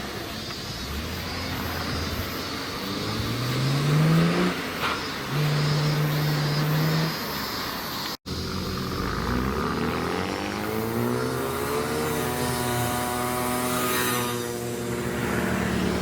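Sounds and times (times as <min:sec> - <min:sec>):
car engine accelerating: 0:00.4 - 0:07.5, 0:08.3 - 0:16.0.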